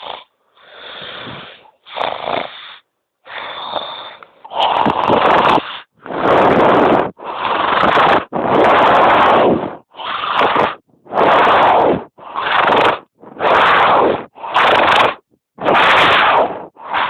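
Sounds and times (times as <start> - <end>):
person snoring loudly: 0.0 - 17.0.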